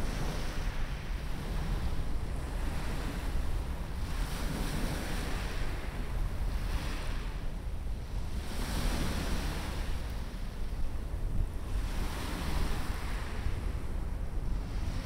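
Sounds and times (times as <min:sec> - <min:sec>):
small waves breaking on sand: 0:00.0 - 0:07.5, 0:08.1 - 0:15.0
wind rumbling on microphone: 0:00.0 - 0:15.0.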